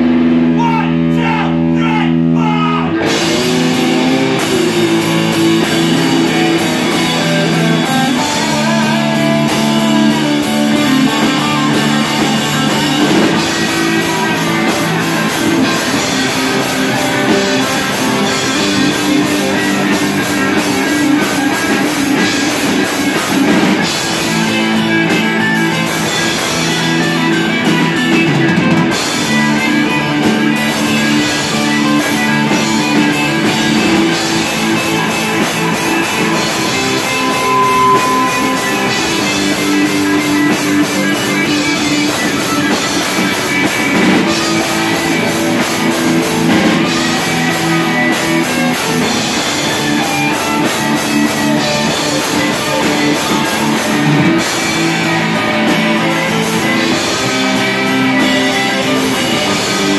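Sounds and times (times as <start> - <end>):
bass guitar: 0.0 - 59.9
distorted electric guitars: 0.0 - 59.9
drum kit with crashing cymbals: 3.0 - 59.9.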